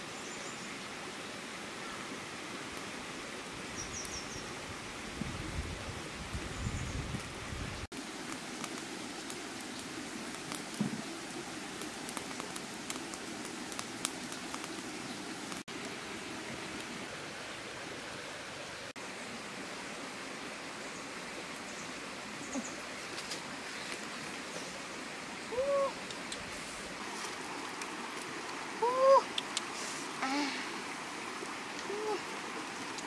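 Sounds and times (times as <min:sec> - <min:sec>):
wood fire hissing and crackling: 0:00.0 - 0:33.0.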